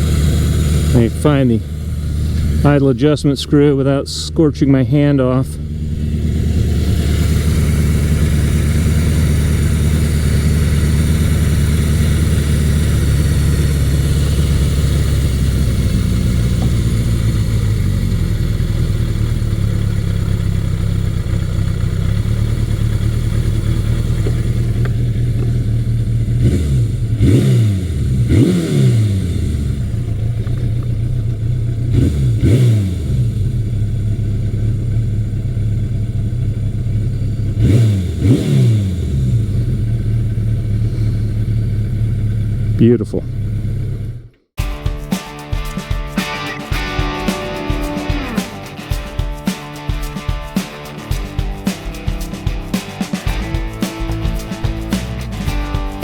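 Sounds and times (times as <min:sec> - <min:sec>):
engine revving: 0:00.0 - 0:44.5, 0:46.1 - 0:56.0
motorcycle engine idling: 0:00.0 - 0:56.0.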